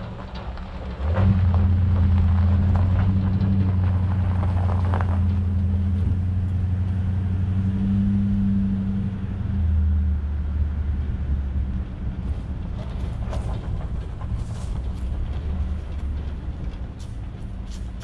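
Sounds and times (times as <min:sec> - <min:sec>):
trailer rattles and clanks: 0:00.0 - 0:18.0
truck engine and road drone: 0:00.0 - 0:18.0.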